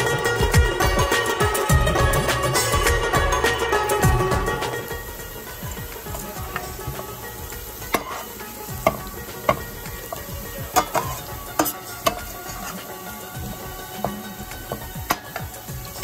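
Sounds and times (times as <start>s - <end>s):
onions sizzling in a pan: 0.0s - 16.0s
metal spoon scraping a pan: 2.0s - 16.0s.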